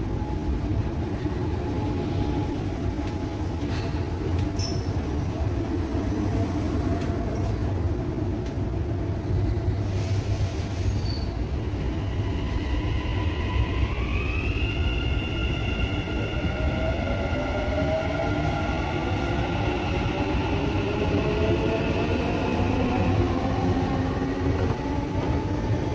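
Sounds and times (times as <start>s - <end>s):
train low rumble: 0.0s - 25.9s.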